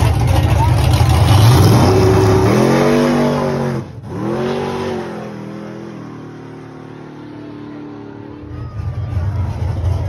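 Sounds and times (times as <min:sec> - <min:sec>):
drag car engine at full throttle: 0:00.0 - 0:10.0.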